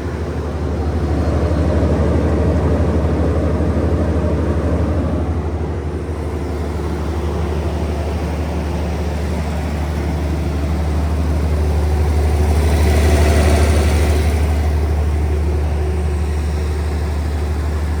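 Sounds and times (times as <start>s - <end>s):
diesel generator droning: 0.0s - 18.0s.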